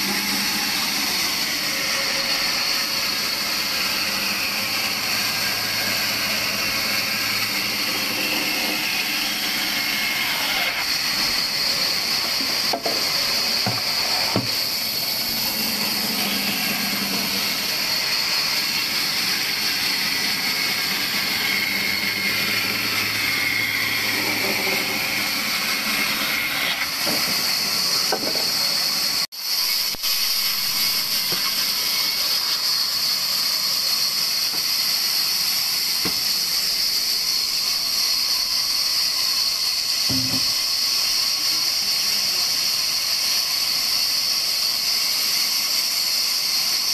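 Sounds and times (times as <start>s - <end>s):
band saw cutting logs: 0.0s - 46.9s.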